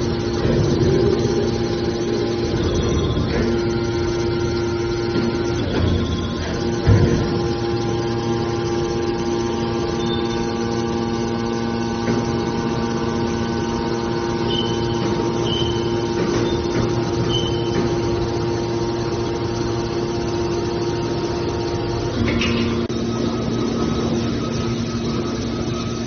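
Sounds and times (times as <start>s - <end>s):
baler hydraulic pump humming: 0.0s - 26.0s.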